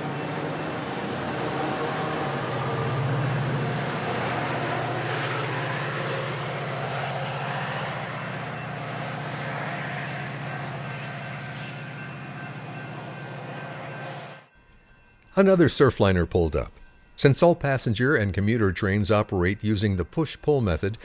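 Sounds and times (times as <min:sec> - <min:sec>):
diesel locomotive rumbling: 0:00.0 - 0:21.0
rail noise: 0:00.0 - 0:21.0.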